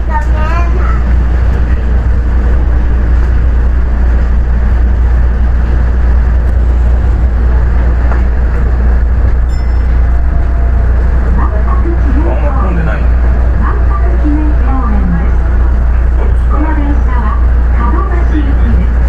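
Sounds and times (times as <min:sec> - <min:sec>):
monorail train rumbling: 0:00.0 - 0:19.0.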